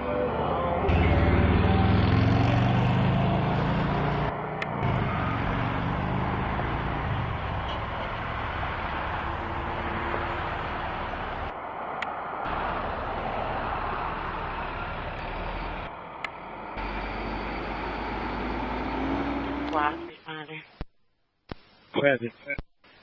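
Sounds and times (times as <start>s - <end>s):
fire truck engine: 0.0s - 20.0s
road noise: 0.0s - 20.2s.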